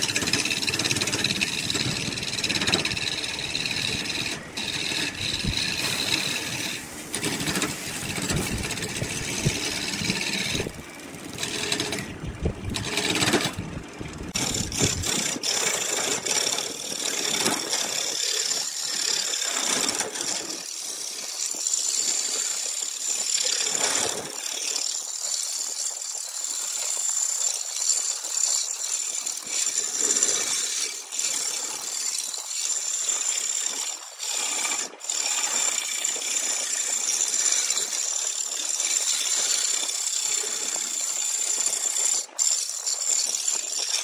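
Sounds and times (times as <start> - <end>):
lathe tool scraping wood: 0.0 - 44.0
wood lathe rumble: 0.0 - 44.0.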